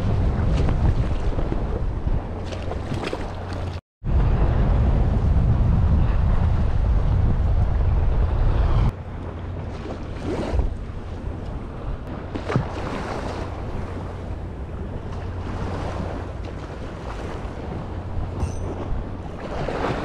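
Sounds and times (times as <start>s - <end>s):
waves washing against shore: 0.0s - 20.0s
wind buffeting microphone: 0.0s - 20.0s.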